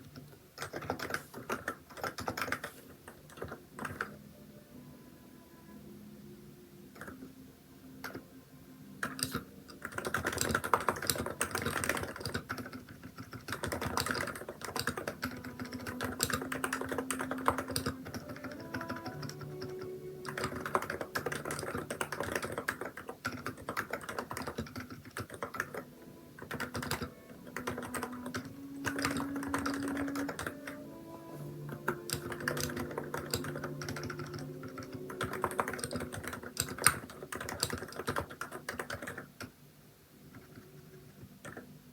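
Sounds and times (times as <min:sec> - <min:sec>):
fast keyboard typing: 0:00.0 - 0:04.2, 0:07.0 - 0:07.3, 0:08.0 - 0:08.2, 0:09.0 - 0:30.8, 0:31.6 - 0:39.6, 0:40.2 - 0:41.7
soft background music: 0:00.0 - 0:41.9.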